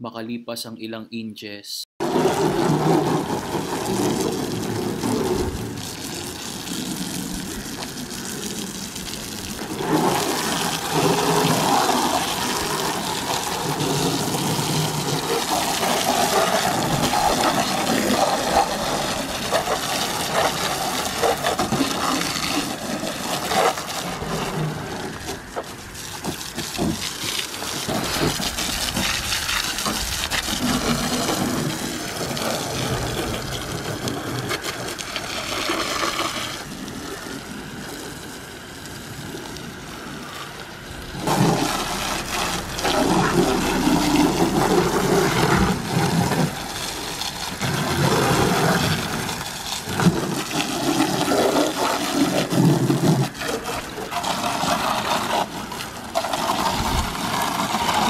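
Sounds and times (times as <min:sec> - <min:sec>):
hose spray splashing on car: 0:02.0 - 0:58.0.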